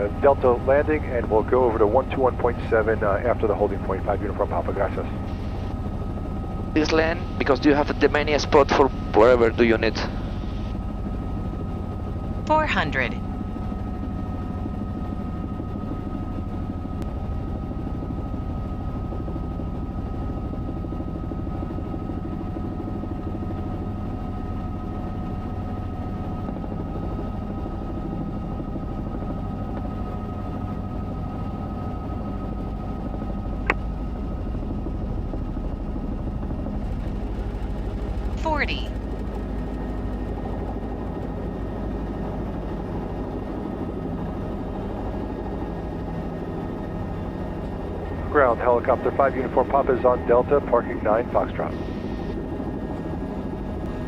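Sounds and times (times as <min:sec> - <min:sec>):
helicopter rotor beat: 0:00.0 - 0:54.0
turbine whine: 0:00.0 - 0:54.0.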